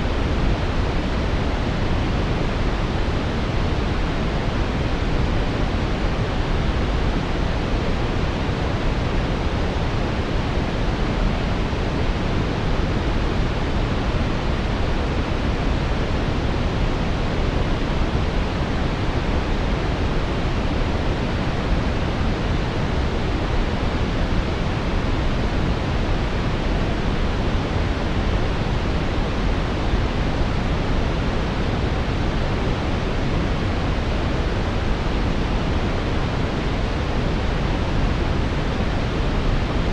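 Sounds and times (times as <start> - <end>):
deep brown noise hiss: 0.0 - 39.9.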